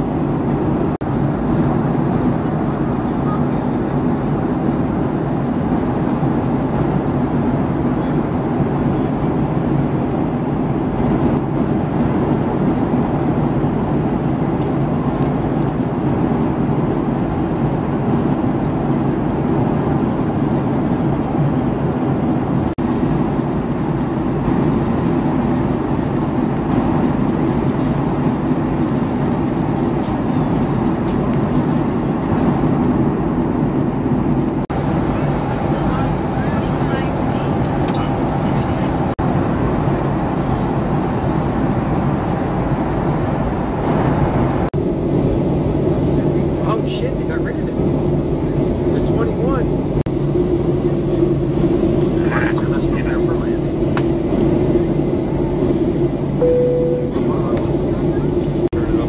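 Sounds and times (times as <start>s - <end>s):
airliner cabin engine roar: 0.0s - 59.0s.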